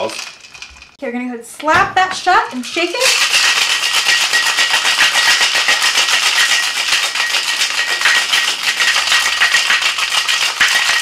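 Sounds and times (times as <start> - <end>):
ice rattling in cocktail shaker: 0.0 - 1.0, 2.6 - 11.0.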